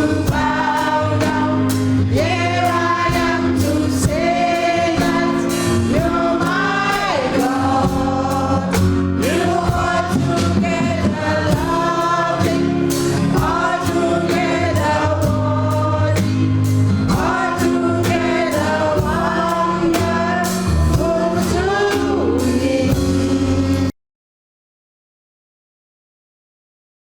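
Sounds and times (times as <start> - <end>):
gospel choir singing: 0.0 - 23.9
instrumental backing with beat: 0.0 - 23.9.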